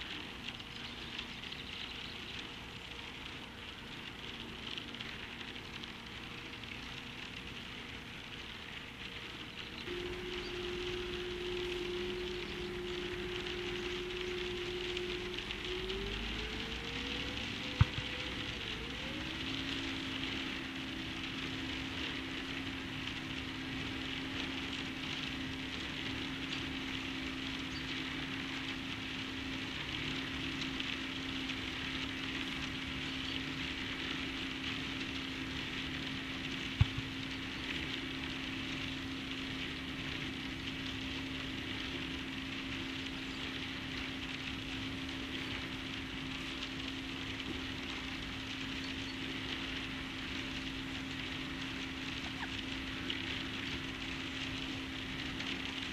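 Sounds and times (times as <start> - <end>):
low steady hum: 0.0 - 55.9
outdoor hiss: 0.0 - 55.9.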